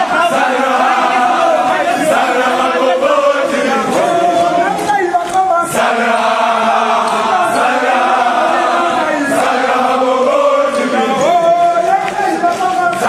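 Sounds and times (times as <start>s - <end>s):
young men chanting and singing: 0.0s - 13.0s.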